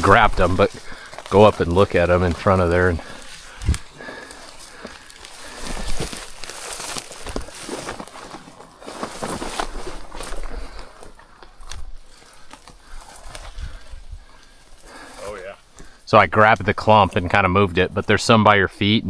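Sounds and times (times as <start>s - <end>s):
footsteps crunching through brush: 0.0s - 16.1s.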